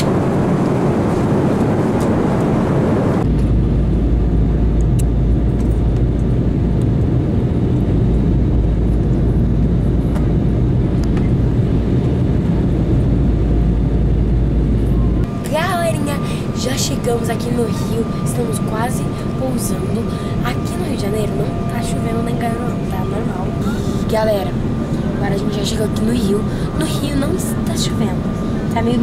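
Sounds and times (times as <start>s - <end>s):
airliner cabin noise: 0.0s - 29.0s
faint steady hum: 0.0s - 29.0s.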